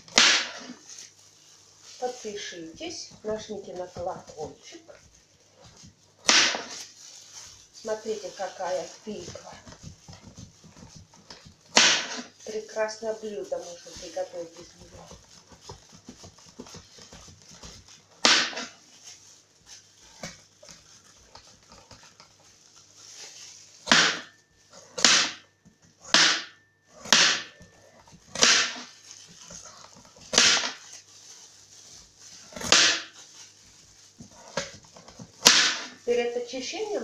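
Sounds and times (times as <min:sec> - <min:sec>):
knife scraping squash rind: 0:00.0 - 0:26.2, 0:26.8 - 0:37.0.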